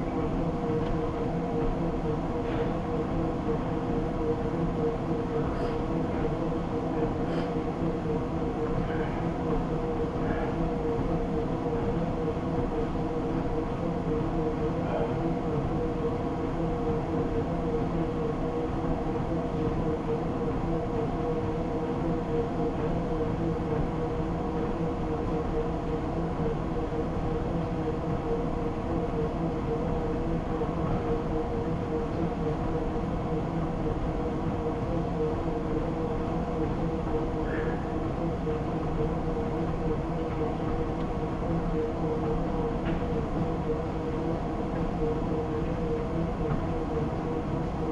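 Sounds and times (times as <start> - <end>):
treadmill motor and belt hum: 0.0 - 47.9.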